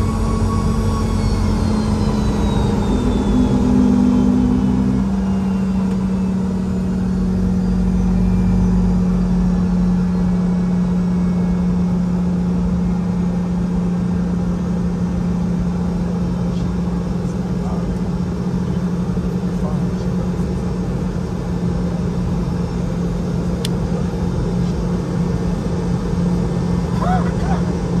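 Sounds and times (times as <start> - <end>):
higher engine tone: 0.0 - 28.0
jet engine idling hum: 0.0 - 28.0.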